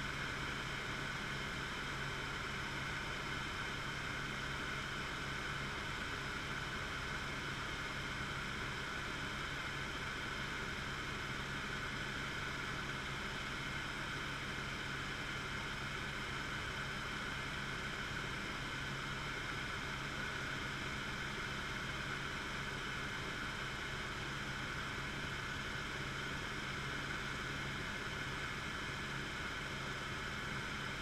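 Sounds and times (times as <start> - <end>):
helicopter engine and rotor hum: 0.0 - 31.0.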